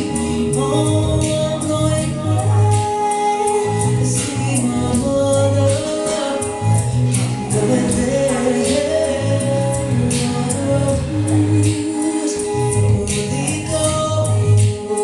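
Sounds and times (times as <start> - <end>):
bass line: 0.0 - 15.0
instrumental chords: 0.0 - 15.0
person singing: 0.0 - 15.0.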